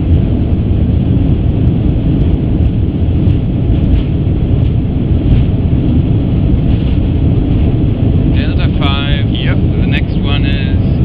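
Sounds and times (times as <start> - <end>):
airliner engine noise: 0.0 - 11.0
wheels rumbling on runway: 0.0 - 11.0.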